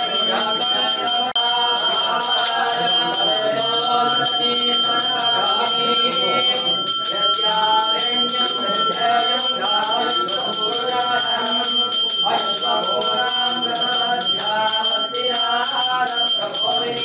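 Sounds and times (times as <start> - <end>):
hand bell ringing: 0.0 - 17.0
voices chanting: 0.0 - 17.0.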